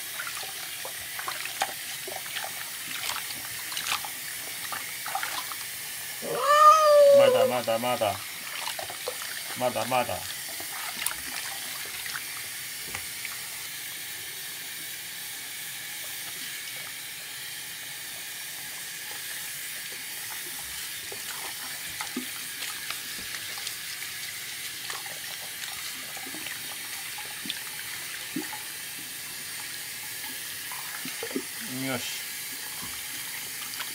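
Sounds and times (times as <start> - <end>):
water running from tap: 0.0 - 33.9.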